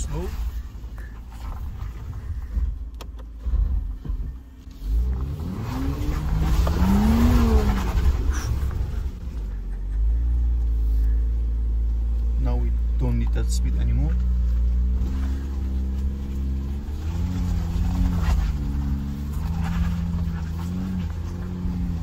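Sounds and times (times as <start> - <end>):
steady low rumble: 0.0 - 22.0
suv engine revving: 0.0 - 22.0.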